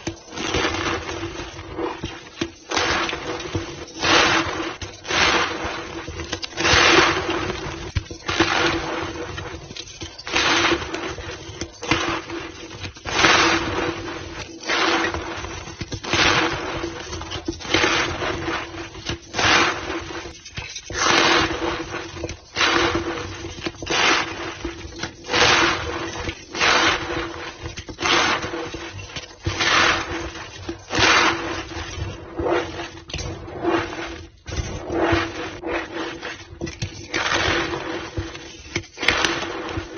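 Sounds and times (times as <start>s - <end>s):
chalk being crushed by hand: 0.0s - 39.9s.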